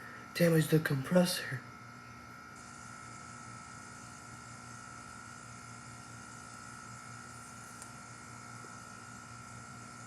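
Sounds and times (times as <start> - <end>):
air conditioner condenser humming: 0.0 - 10.0.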